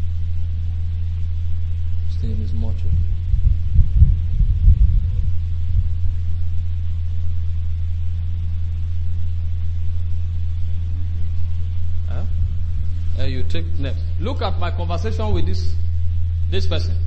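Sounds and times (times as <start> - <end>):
low thumps: 0.0 - 17.0
steady low hum: 0.0 - 17.0.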